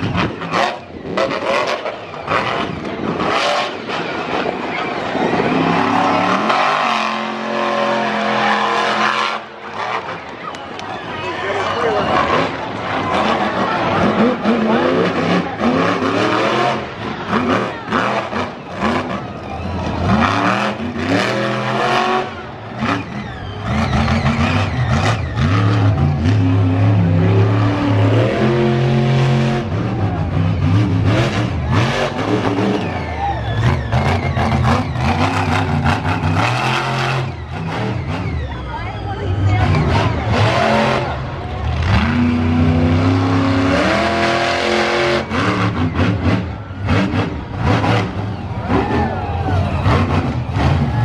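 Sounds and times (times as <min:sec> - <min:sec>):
truck engine revving: 0:00.0 - 0:51.0.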